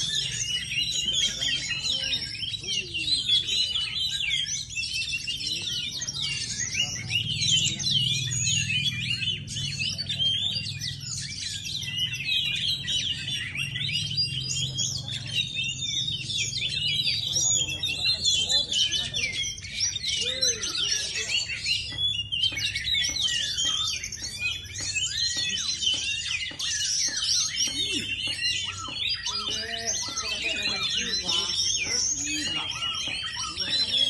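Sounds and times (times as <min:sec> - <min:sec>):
bird singing whistles and chirps: 0:00.0 - 0:34.0.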